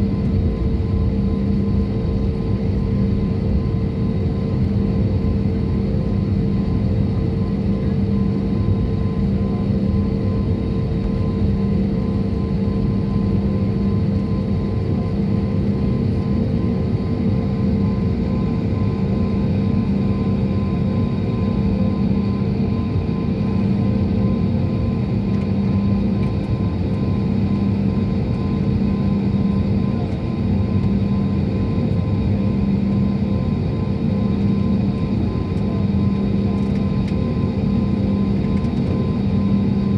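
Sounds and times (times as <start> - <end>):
jet engine cabin noise: 0.0 - 39.9.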